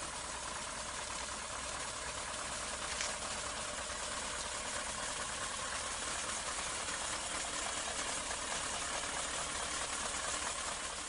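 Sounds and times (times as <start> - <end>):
diesel truck engines running: 0.0 - 11.0.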